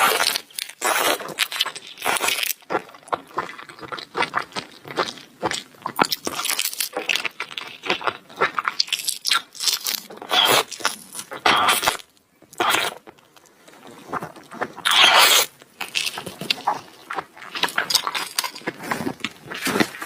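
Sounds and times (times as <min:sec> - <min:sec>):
chewing and crunching seafood: 0:00.0 - 0:20.0.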